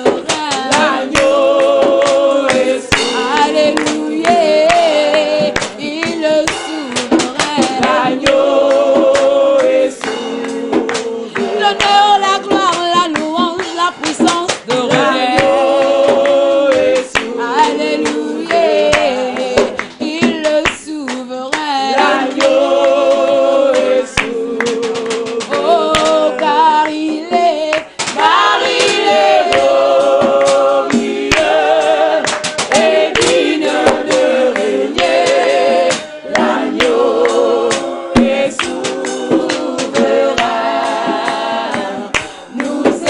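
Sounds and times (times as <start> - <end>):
hand claps: 0.0 - 43.0
women singing gospel song: 0.0 - 43.0.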